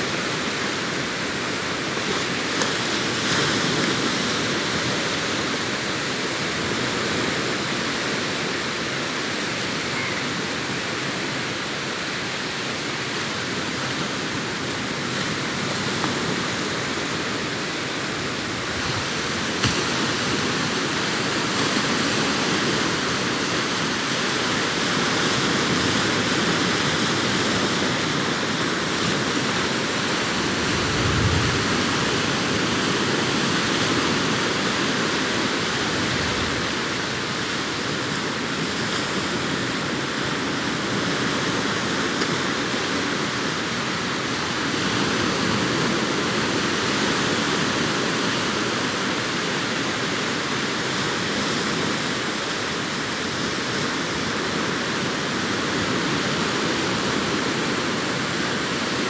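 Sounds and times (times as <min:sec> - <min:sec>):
sea waves breaking on beach: 0:00.0 - 0:59.0.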